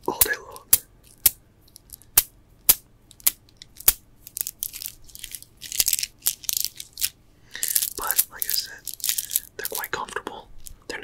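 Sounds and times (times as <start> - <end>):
beads clicking and rattling: 0.6 - 10.9.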